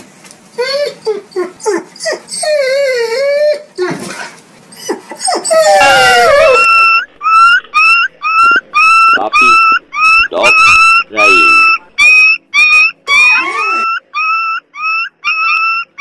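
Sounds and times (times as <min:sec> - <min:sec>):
husky whining and howling: 0:00.5 - 0:16.0
puppy yelping: 0:00.6 - 0:16.0.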